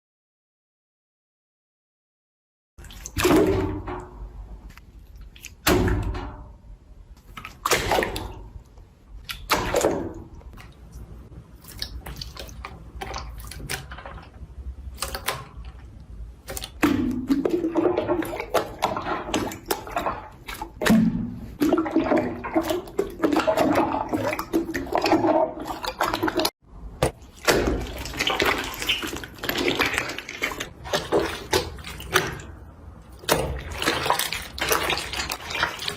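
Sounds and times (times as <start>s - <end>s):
slime squelching: 2.8s - 35.9s.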